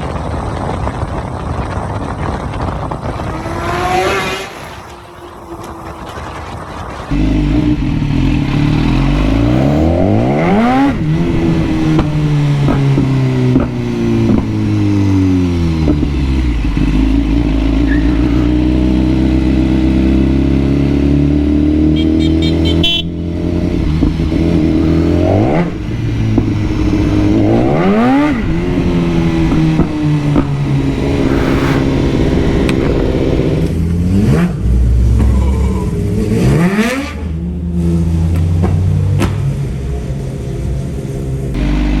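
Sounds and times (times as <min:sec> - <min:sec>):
motorcycle engine revving: 0:00.2 - 0:42.0.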